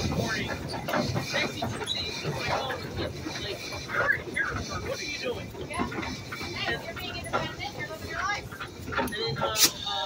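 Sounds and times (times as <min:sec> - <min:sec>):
people talking indistinctly: 0:00.0 - 0:10.0.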